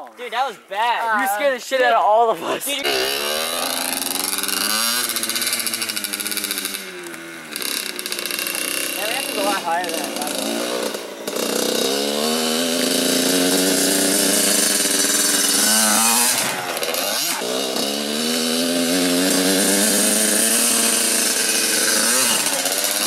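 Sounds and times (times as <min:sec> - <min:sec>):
dirt bike engine revving: 0:02.4 - 0:23.0.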